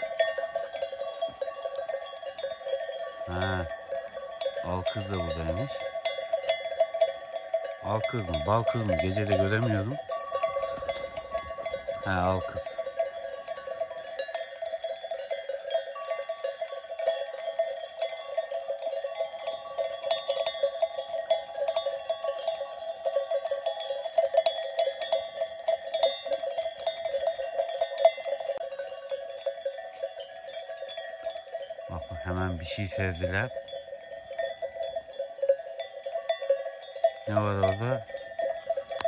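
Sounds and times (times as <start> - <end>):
sheep bells clanking: 0.0 - 39.0.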